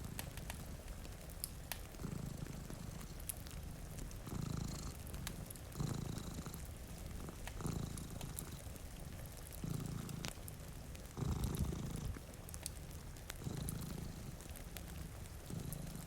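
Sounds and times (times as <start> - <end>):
cat purring: 0.0 - 16.0
fireplace crackling: 0.0 - 16.0
rain hiss: 0.0 - 16.0.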